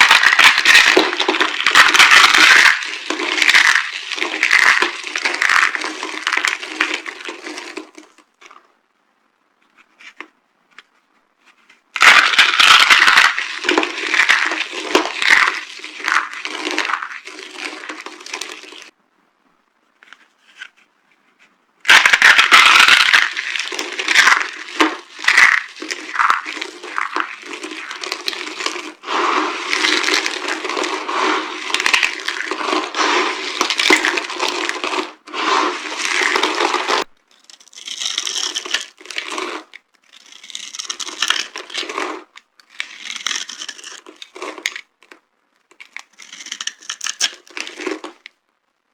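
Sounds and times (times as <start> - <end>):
dry soap crunching: 0.0 - 8.7, 12.0 - 18.9, 21.8 - 48.3.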